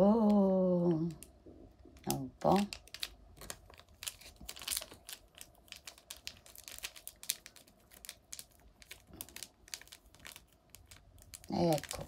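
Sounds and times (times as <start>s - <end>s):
paper sachet crinkling: 1.9s - 12.0s.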